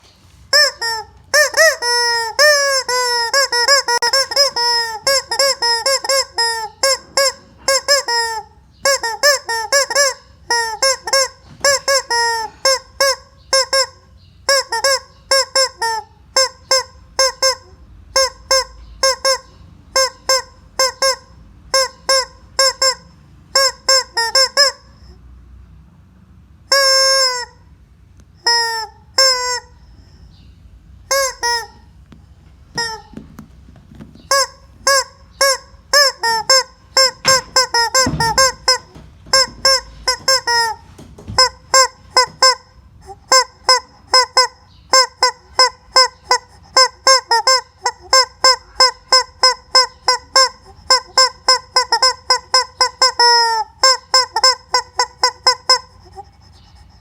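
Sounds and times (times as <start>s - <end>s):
squeeze-toy chicken honking: 0.5s - 25.2s, 26.6s - 27.7s, 28.4s - 30.2s, 31.0s - 32.0s, 32.7s - 33.4s, 34.0s - 57.0s.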